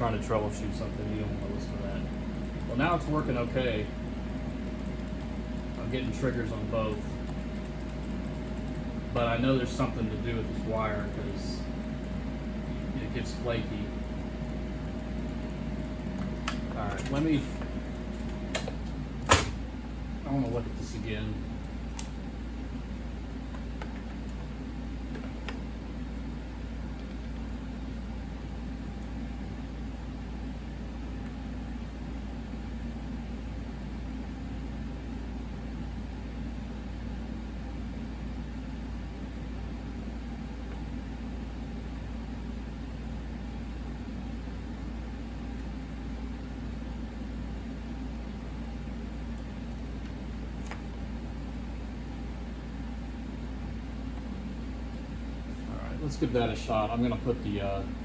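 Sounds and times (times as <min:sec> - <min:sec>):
electrical and fan hum: 0:00.0 - 0:58.0.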